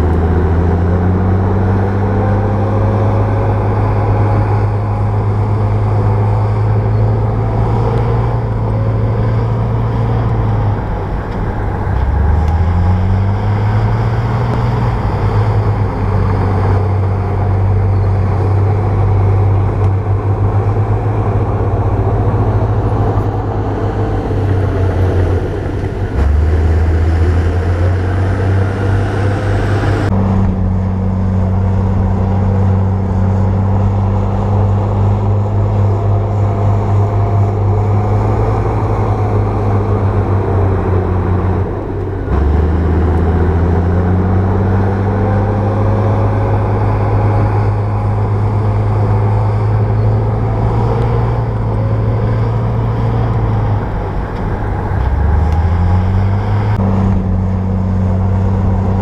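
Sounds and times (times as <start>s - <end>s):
bulldozer diesel engine working: 0.0s - 59.0s.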